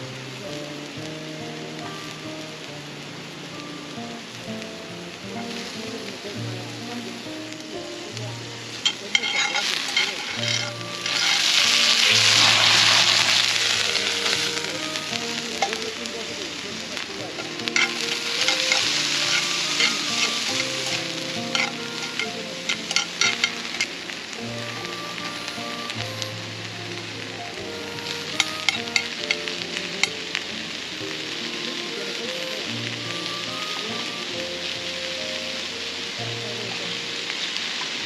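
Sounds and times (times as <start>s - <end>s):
background music: 0.0s - 38.0s
food sizzling in a pan: 0.0s - 38.0s.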